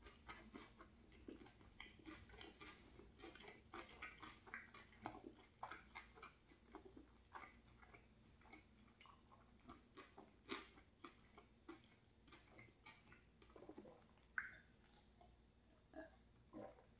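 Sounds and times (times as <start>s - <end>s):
close-miked chewing: 0.0s - 16.9s.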